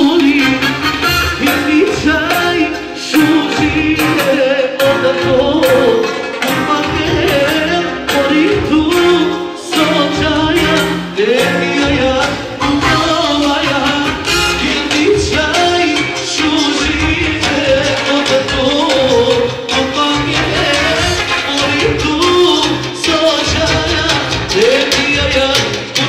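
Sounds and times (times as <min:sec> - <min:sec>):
dance music with singer: 0:00.0 - 0:26.0.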